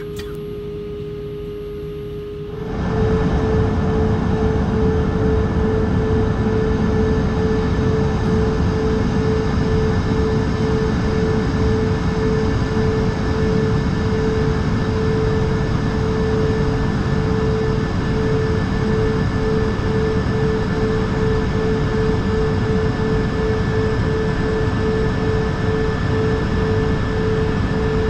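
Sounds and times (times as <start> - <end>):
aircraft cabin engine and airflow rush: 0.0 - 28.0
constant droning tone: 0.0 - 28.0.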